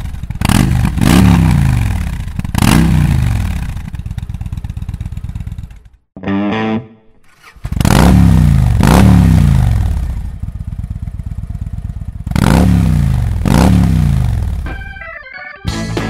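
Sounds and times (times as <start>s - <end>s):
motorcycle engine revving and idling: 0.0s - 6.1s, 7.2s - 14.7s.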